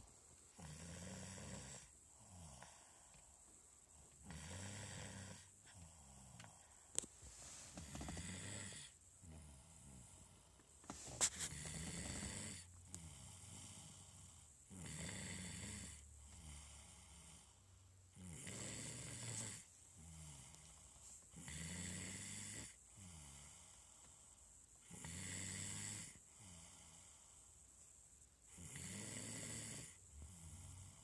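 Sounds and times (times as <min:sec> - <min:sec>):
soft breaths: 0:00.0 - 0:28.6
loud snoring: 0:00.5 - 0:03.0, 0:04.0 - 0:06.8, 0:07.7 - 0:10.6, 0:11.3 - 0:24.0, 0:24.8 - 0:27.4, 0:28.5 - 0:31.0.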